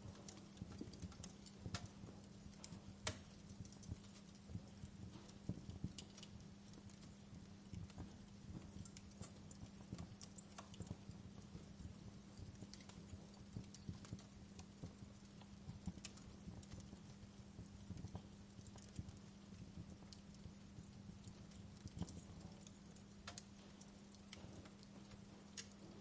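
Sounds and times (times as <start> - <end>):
faint low hum: 0.0 - 26.0
wood fire crackling: 0.0 - 26.0.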